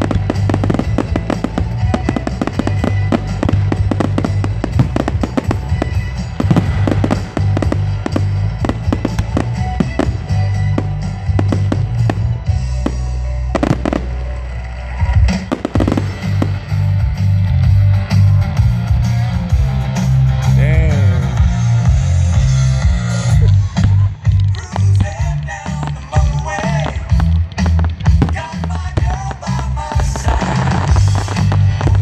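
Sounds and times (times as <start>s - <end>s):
fireworks bursting and crackling: 0.0s - 18.3s, 23.0s - 32.0s
music with strong bass: 0.0s - 32.0s.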